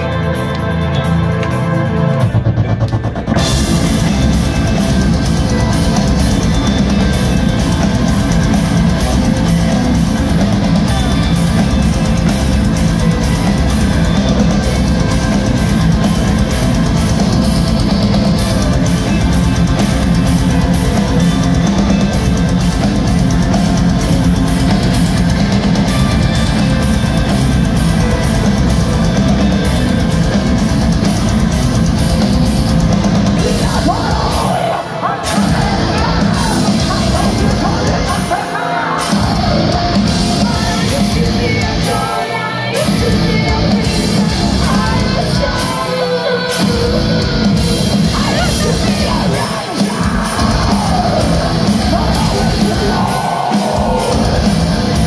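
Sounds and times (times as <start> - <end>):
distorted electric guitars: 0.0 - 55.0
driving drum kit: 0.0 - 55.0.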